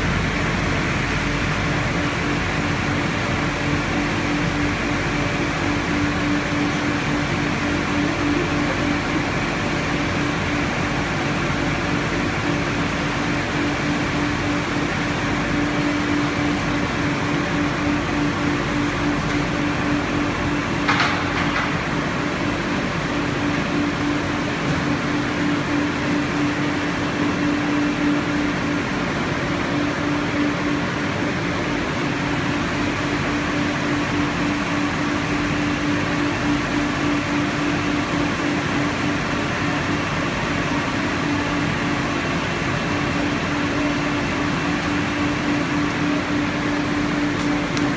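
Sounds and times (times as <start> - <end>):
machine hum with low tone: 0.0 - 47.9.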